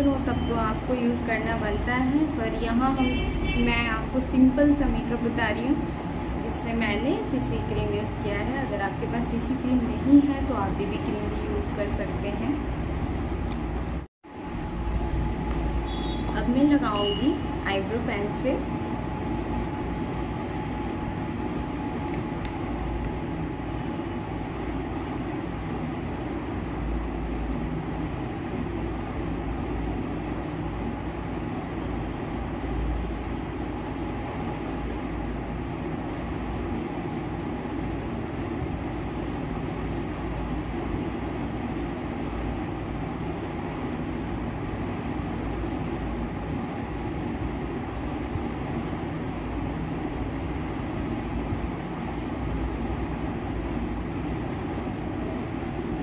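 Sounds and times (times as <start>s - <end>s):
faint constant hum: 0.0s - 56.0s
machine rumble: 0.0s - 56.0s.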